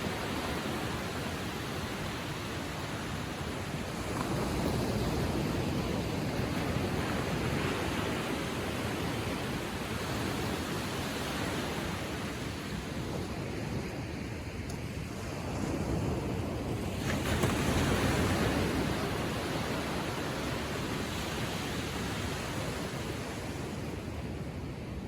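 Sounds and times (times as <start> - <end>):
ocean waves lapping on shore: 0.0 - 25.0.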